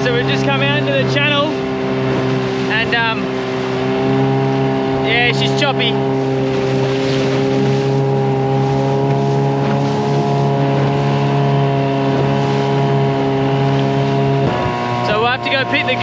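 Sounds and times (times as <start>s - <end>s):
outboard motor running: 0.0s - 16.0s
wind and water rushing: 0.0s - 16.0s.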